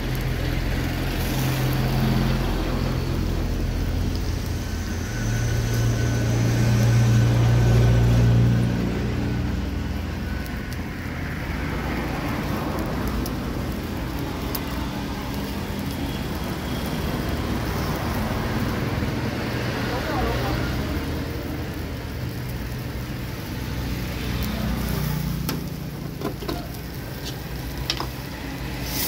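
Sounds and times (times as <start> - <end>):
traffic engine rumble: 0.0 - 29.0.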